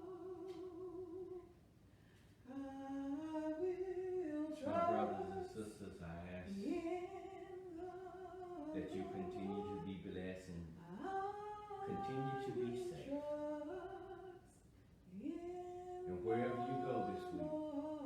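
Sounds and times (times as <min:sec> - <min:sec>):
person singing a hymn unaccompanied: 0:00.0 - 0:01.5, 0:02.5 - 0:18.0.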